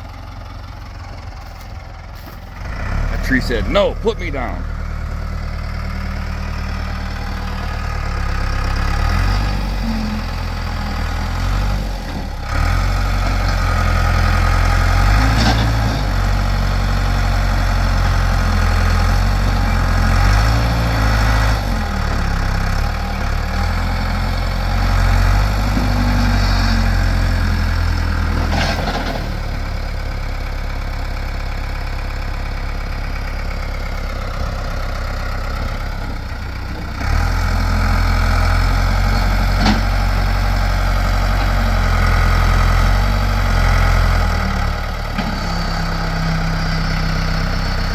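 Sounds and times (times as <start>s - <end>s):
backhoe engine straining: 0.0s - 47.9s.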